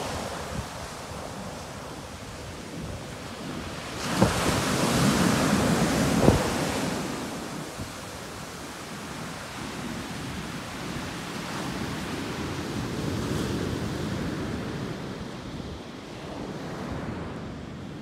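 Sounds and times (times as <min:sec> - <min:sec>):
waves breaking on sand: 0:00.0 - 0:14.8
wind buffeting microphone: 0:00.0 - 0:18.0.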